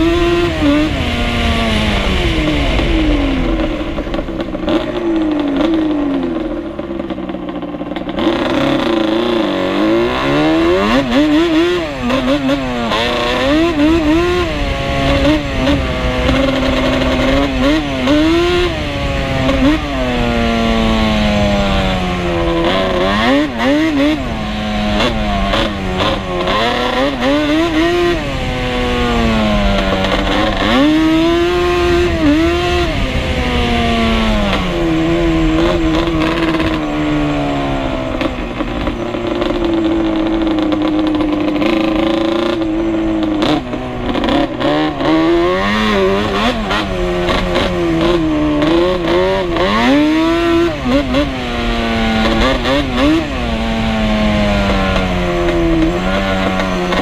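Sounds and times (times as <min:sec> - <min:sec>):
two-stroke atv engine revving: 0:00.0 - 0:57.0.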